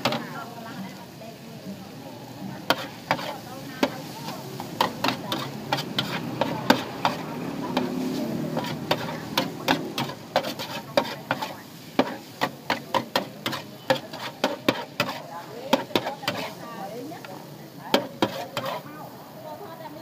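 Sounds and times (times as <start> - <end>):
metal spatula scraping a wok: 0.0 - 1.0, 2.4 - 19.2
food sizzling: 0.0 - 20.0.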